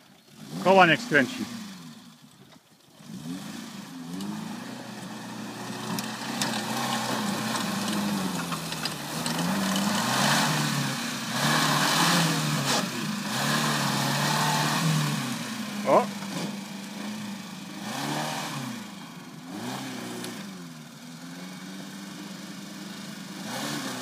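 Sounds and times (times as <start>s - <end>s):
small engine revving: 0.3s - 24.0s.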